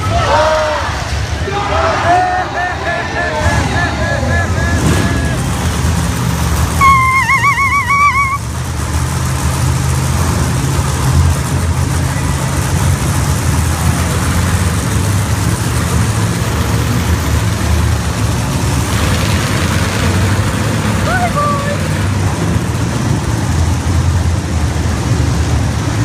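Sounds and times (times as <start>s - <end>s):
truck engine running loud: 0.0s - 26.0s.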